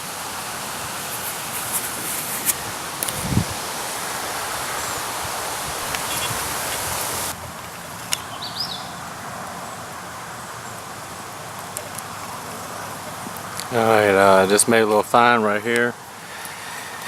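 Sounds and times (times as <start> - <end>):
steady rustling hiss: 0.0 - 17.0.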